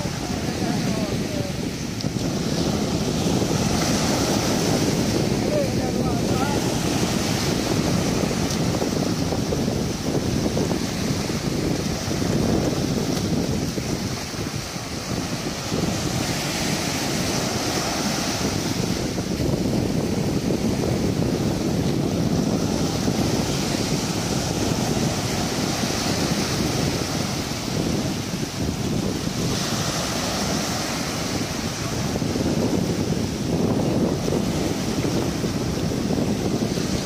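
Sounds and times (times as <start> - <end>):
waves breaking: 0.0 - 37.0
wind rumble on microphone: 0.0 - 37.0.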